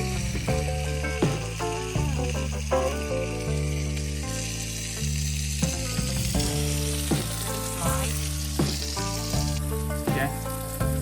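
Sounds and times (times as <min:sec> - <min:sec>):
background music with bass line: 0:00.0 - 0:11.0
burgers sizzling in a pan: 0:00.0 - 0:11.0.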